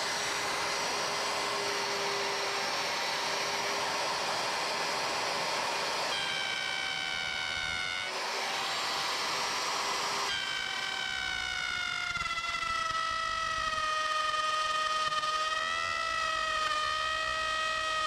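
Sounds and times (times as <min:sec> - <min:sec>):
electric router whining: 0:00.0 - 0:18.0.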